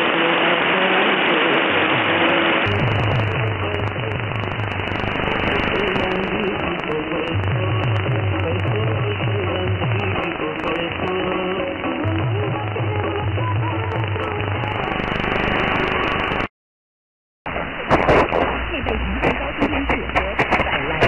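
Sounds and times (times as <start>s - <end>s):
faint wavering radio programme: 0.0s - 16.5s, 17.5s - 21.0s
radio hiss and static: 0.0s - 16.5s, 17.5s - 21.0s.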